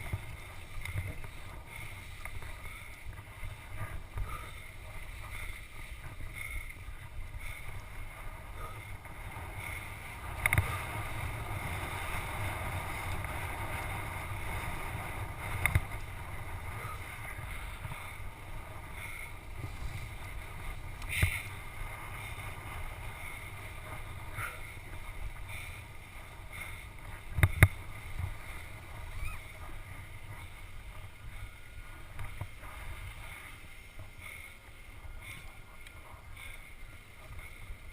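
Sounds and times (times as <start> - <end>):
skis rushing on snow: 0.0 - 37.9
wind: 0.0 - 37.9.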